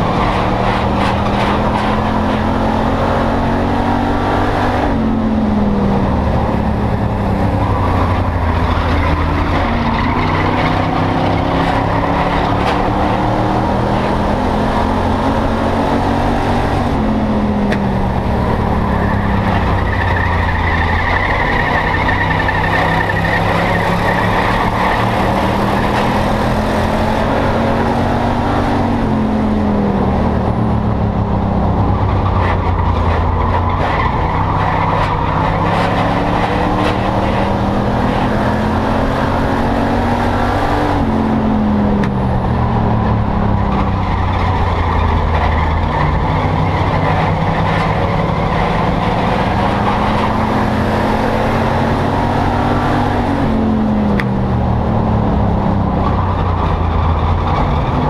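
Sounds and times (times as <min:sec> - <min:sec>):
race car engine: 0:00.0 - 0:58.0
road and wind noise: 0:00.0 - 0:58.0.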